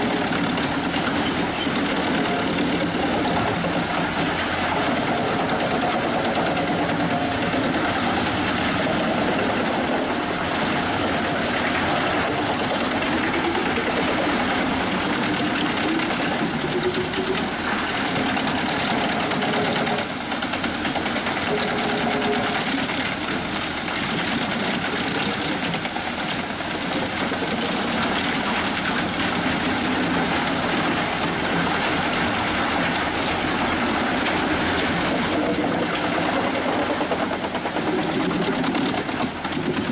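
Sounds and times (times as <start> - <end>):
tractor engine: 0.0 - 39.9
wood chipper drum spinning: 0.0 - 39.9.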